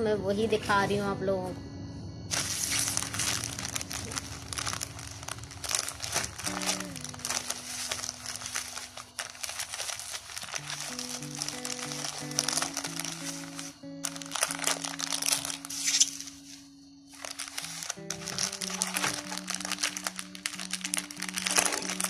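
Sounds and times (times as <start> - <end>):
soft background music: 0.0 - 22.0
plastic wrapping crinkling: 2.3 - 22.0.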